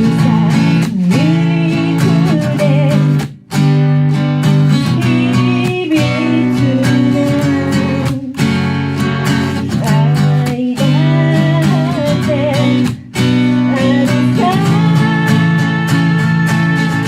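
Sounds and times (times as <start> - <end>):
acoustic guitar instrumental: 0.0 - 17.0.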